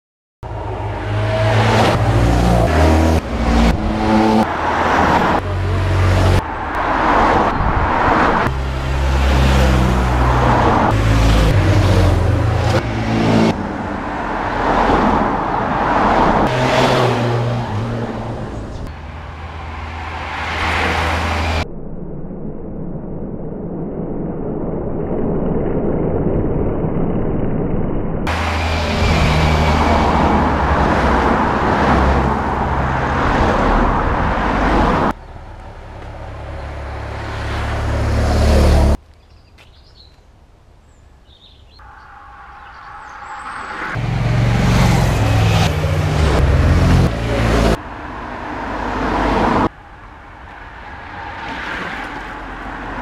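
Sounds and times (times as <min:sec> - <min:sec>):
cars and motorcycles passing: 0:00.4 - 0:21.6, 0:28.3 - 0:39.0, 0:41.8 - 0:53.0.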